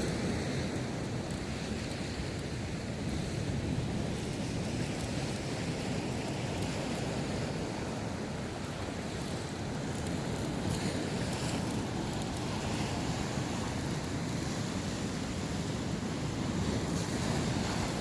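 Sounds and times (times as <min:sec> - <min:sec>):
sea waves breaking on shore: 0:00.0 - 0:18.0
wind noise on microphone: 0:00.0 - 0:18.0.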